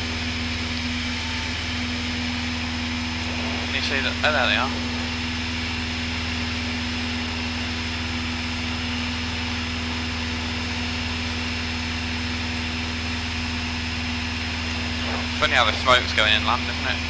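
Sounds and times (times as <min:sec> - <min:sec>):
light aircraft engine and propeller drone: 0:00.0 - 0:17.0.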